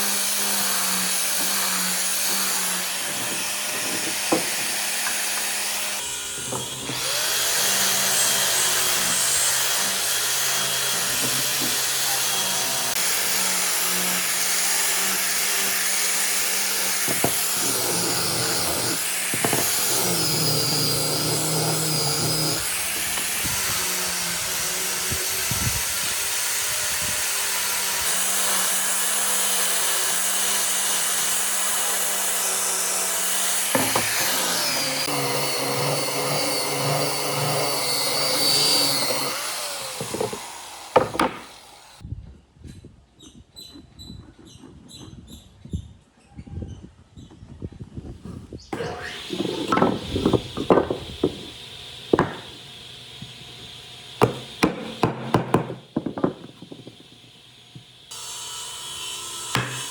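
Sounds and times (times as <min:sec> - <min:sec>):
power tool running on wood: 0:00.0 - 0:42.0, 0:48.8 - 0:59.9.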